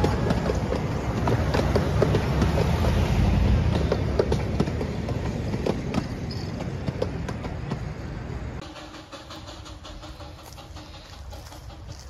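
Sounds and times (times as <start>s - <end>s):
miniature train rolling past: 0.0s - 12.0s
wheels clicking on rails: 0.0s - 12.0s.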